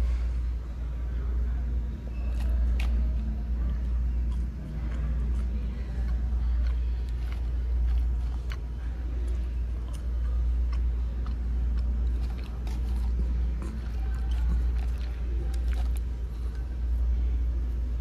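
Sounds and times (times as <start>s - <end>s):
person chewing fries: 2.2s - 17.8s.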